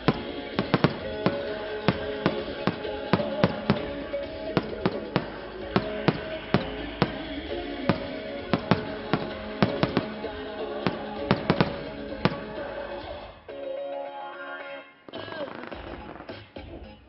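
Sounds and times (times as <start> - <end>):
fireworks bursting: 0.0 - 13.3, 15.1 - 16.7
music with long held notes: 0.0 - 14.9.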